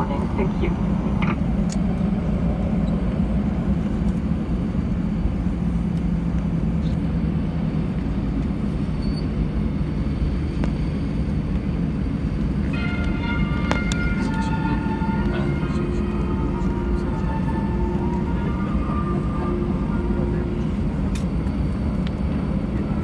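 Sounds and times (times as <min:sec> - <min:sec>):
airliner engines low rumble: 0:00.0 - 0:23.0.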